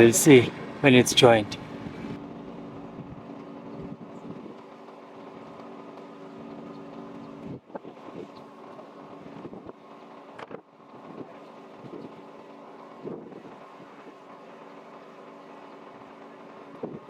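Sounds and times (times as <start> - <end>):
steady motor hum: 0.0 - 17.0.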